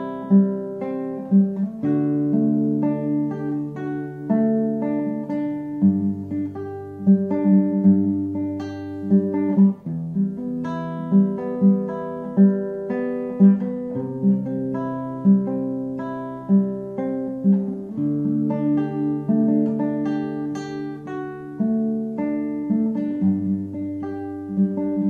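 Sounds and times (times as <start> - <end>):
calm acoustic guitar music: 0.0 - 25.0.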